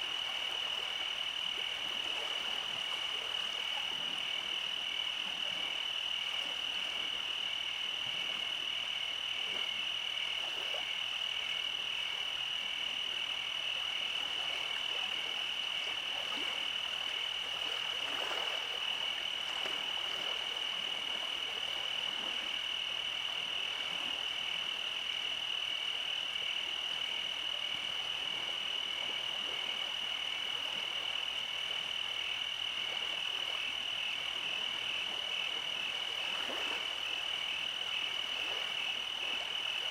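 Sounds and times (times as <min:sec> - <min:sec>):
frogs pulsing call: 0:00.0 - 0:39.9.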